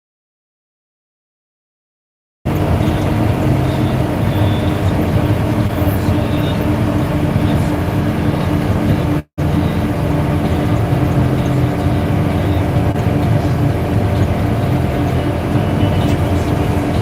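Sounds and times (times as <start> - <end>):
low mechanical drone: 2.5 - 17.0.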